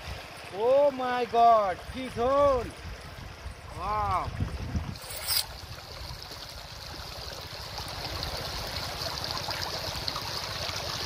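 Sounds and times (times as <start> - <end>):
water trickling over rocks: 0.0 - 11.0.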